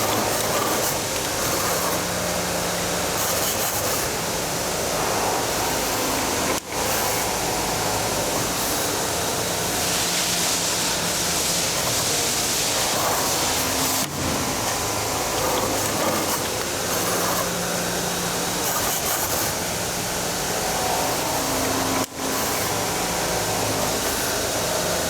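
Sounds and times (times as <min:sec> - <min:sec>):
wire-forming machine running: 0:00.0 - 0:25.0.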